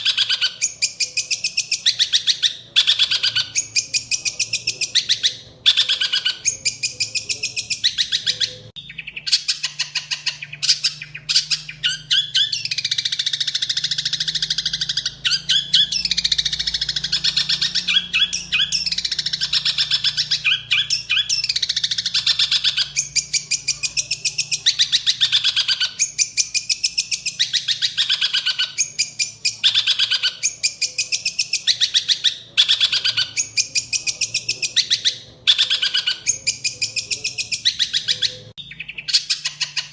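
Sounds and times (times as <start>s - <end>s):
bird singing harsh rapid chirps: 0.0s - 39.9s.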